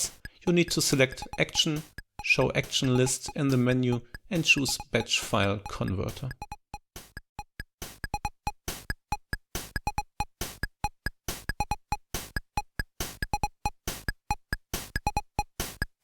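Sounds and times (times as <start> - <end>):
electronic music with synth blips: 0.0 - 16.0.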